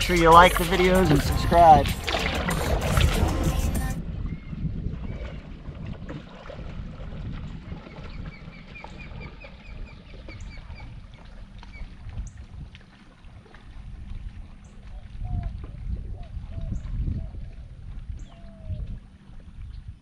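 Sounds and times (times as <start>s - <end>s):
water at shoreline: 0.0s - 20.0s
wind: 0.0s - 20.0s.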